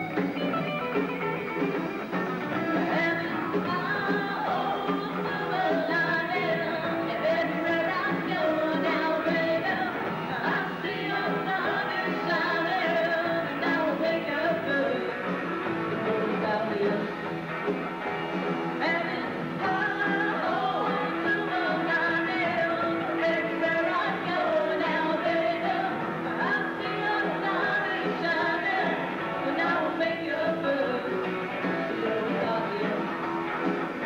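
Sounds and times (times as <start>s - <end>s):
live rock band playing: 0.0s - 34.0s
woman singing: 2.5s - 17.2s, 18.8s - 33.2s.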